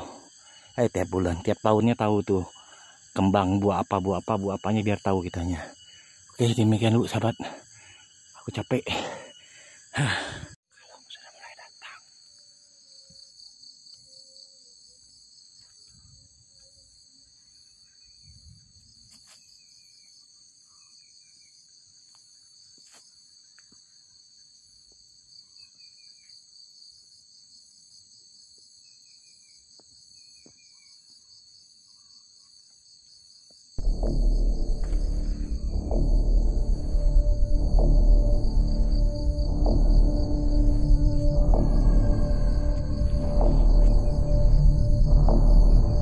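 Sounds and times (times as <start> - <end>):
night insects chorus: 0.0 - 46.0.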